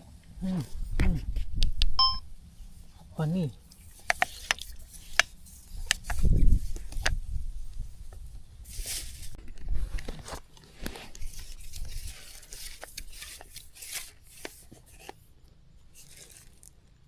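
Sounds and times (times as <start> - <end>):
close rustling and crackling: 2.4 - 17.0.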